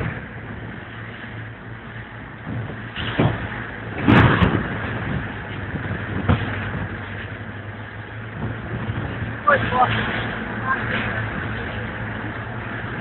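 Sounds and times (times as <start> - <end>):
boat engines droning: 0.0 - 13.0
ship's wake rushing: 0.0 - 13.0.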